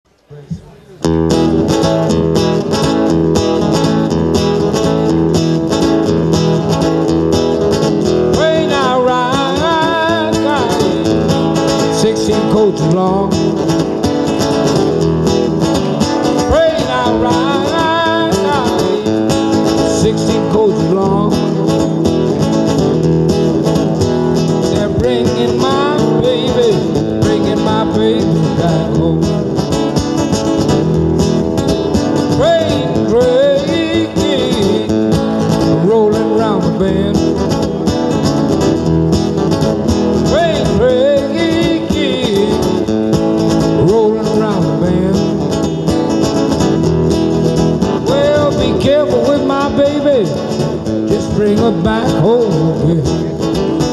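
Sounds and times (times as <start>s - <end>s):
nylon-string guitar plucking: 0.1s - 53.9s.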